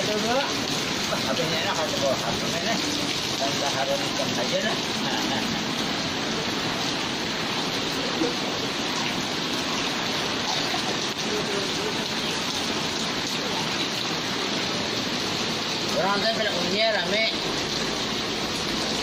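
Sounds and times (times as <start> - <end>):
heavy rain splashing: 0.0 - 19.0.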